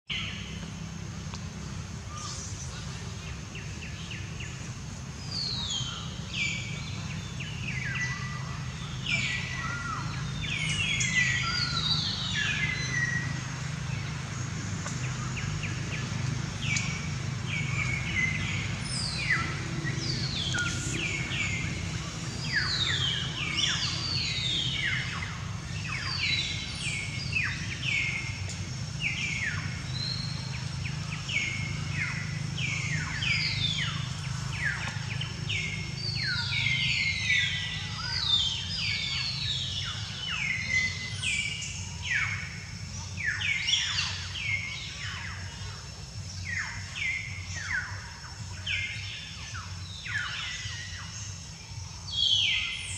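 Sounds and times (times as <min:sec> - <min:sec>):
birds chirping: 0:00.1 - 0:52.9
steady low hum: 0:00.1 - 0:52.9.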